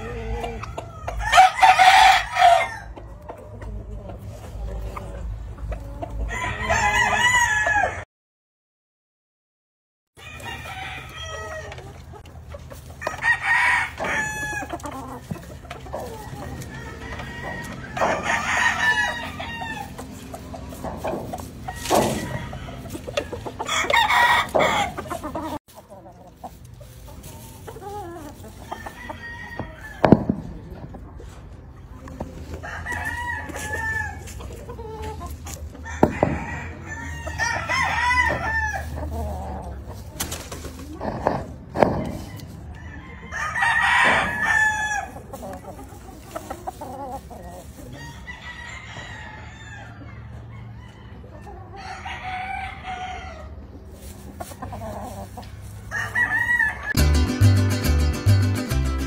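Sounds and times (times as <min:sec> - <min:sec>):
chickens clucking: 0:00.0 - 0:08.0, 0:10.2 - 0:59.0
roosters crowing: 0:00.0 - 0:08.1, 0:10.2 - 0:59.0.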